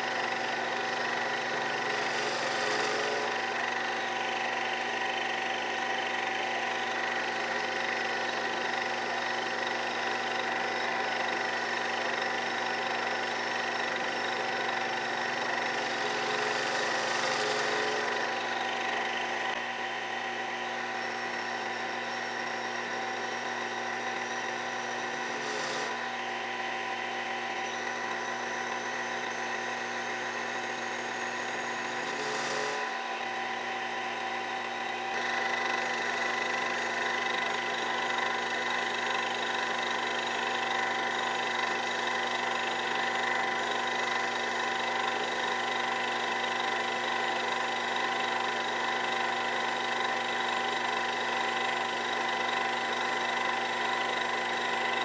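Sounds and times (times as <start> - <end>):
mini lathe motor whine: 0.0 - 55.0.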